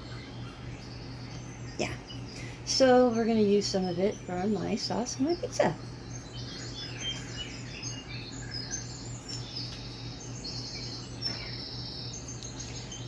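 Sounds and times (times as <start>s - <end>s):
low electrical hum: 0.0s - 13.0s
small bird chirping and trilling: 0.0s - 13.0s.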